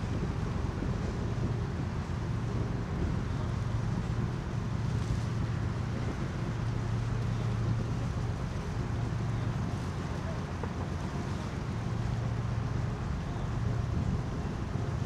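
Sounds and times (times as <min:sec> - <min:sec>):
boat engine droning: 0:00.0 - 0:15.0
wind buffeting microphone: 0:00.0 - 0:15.0.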